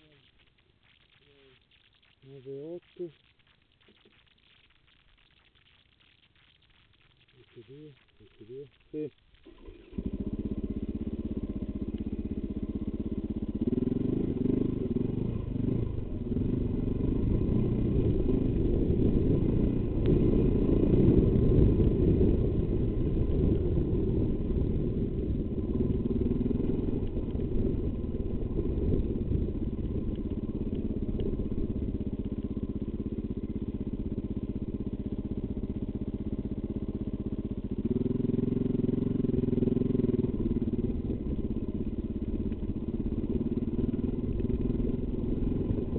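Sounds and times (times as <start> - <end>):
motorcycle engine running: 7.8 - 45.9.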